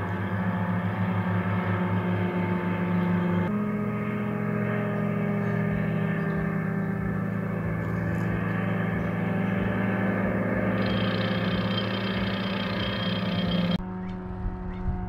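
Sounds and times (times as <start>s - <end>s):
paramotor engines droning: 0.0s - 14.7s.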